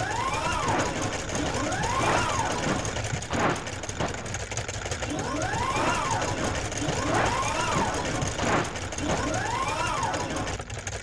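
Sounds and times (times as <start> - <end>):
rising and falling sliding tone: 0.0 - 4.3, 5.1 - 10.6
mechanical whirring: 0.0 - 11.0.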